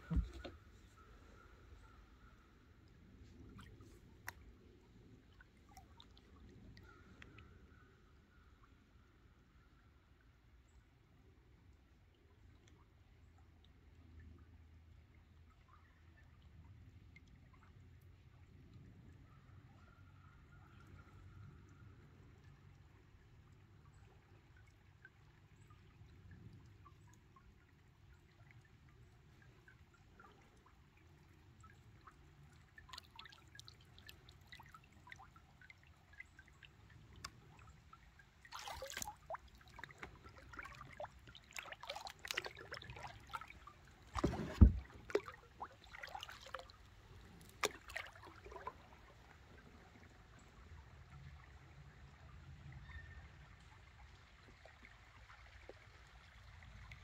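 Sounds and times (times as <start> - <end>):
paddle splashes and drips: 0.0 - 57.0.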